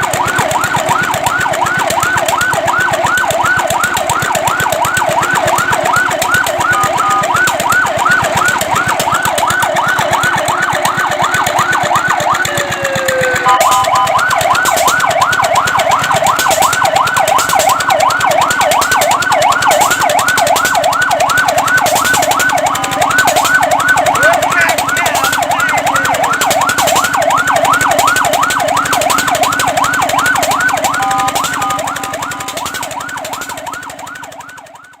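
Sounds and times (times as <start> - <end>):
siren yelping: 0.0 - 35.0.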